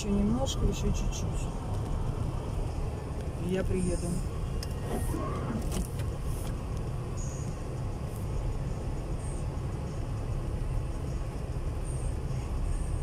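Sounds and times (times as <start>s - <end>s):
car driving on snowy road: 0.0s - 13.0s.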